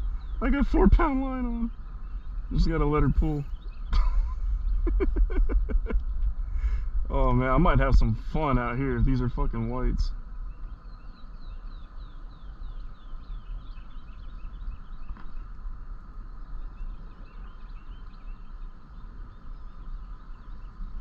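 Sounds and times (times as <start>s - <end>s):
birds chirping: 0.0s - 21.0s
low steady rumble: 0.0s - 21.0s.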